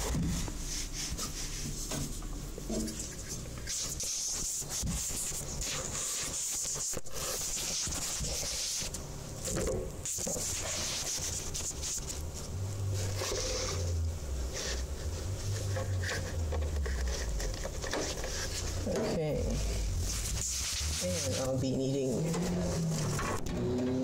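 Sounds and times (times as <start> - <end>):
handling noise rubbing and scraping: 0.0 - 24.0.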